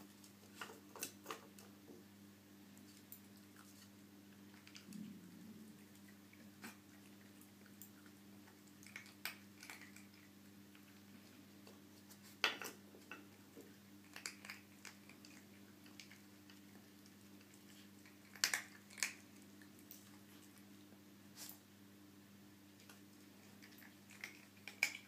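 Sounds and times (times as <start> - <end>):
puppy chewing treats: 2.8 - 21.6, 22.7 - 25.0.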